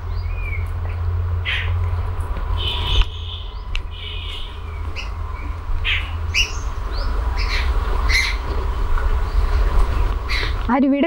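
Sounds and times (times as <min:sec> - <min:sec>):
low rumble: 0:00.0 - 0:10.8
birds chirping: 0:00.0 - 0:11.0.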